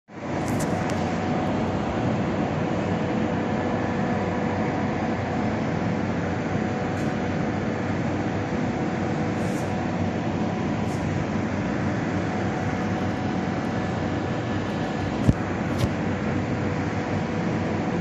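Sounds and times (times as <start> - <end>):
mechanical hum: 0.1 - 18.0.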